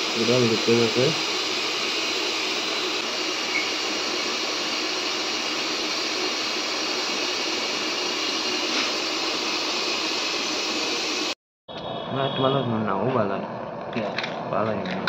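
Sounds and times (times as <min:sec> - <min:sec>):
gas hissing from leak: 0:00.0 - 0:14.5.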